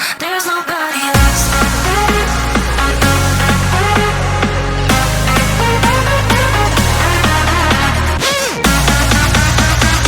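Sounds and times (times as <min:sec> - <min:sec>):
electronic dance music: 0:00.3 - 0:10.0.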